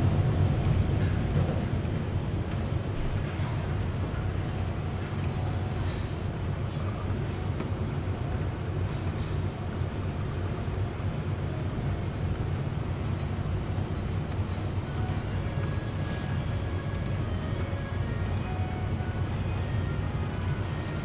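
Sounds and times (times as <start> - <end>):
steady low hum: 0.0 - 21.0
faint background murmur: 0.9 - 21.0.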